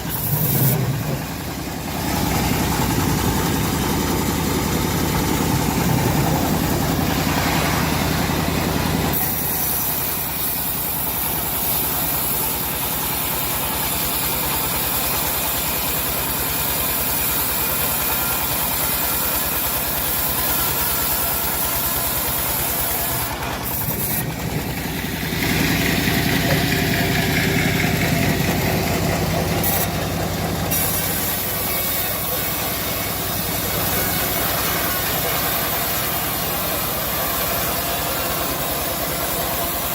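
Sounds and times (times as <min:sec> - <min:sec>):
bandsaw mill sawing log: 0:00.0 - 0:39.9.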